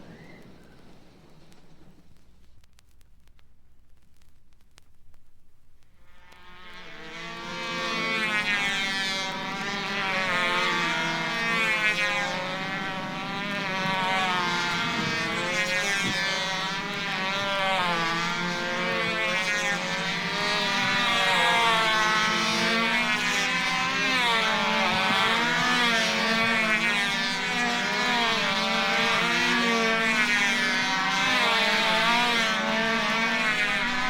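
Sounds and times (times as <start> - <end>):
motor engine running: 0.0 - 2.5, 6.0 - 34.0.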